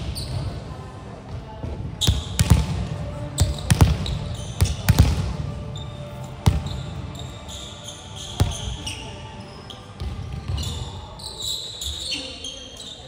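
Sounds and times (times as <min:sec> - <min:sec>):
sneakers squeaking on court: 0:00.0 - 0:00.7, 0:01.9 - 0:02.7, 0:03.3 - 0:13.0.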